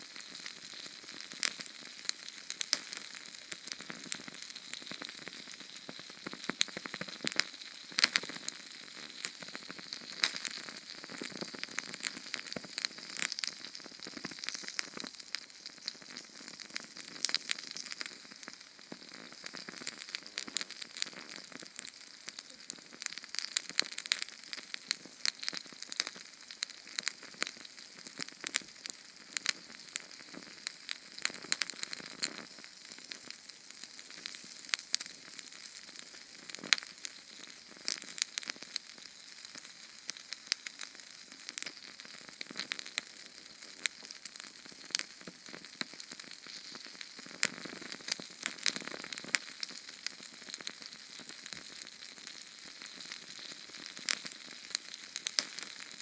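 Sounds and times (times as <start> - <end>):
canned fuel flame sizzling: 0.0 - 56.0
crackles and pops: 0.0 - 56.0.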